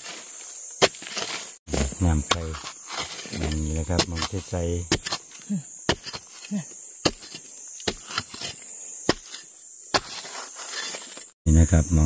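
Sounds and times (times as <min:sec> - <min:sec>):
high insect buzz: 0:00.0 - 0:12.0
spade chopping into ground: 0:00.8 - 0:11.3.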